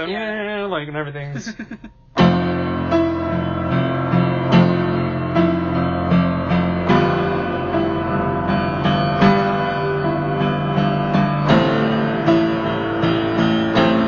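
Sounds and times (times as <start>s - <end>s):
piano music: 1.9s - 14.0s.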